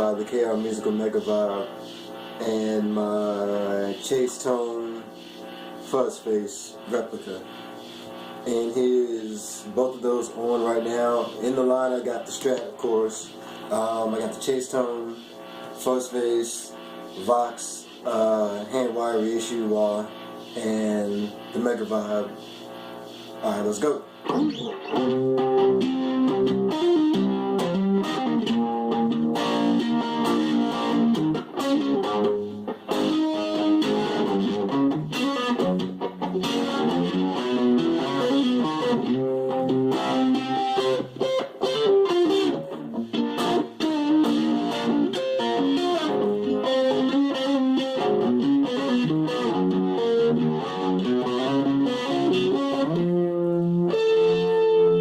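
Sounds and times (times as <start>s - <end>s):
fuzzy electric guitar playing: 0.0s - 55.0s.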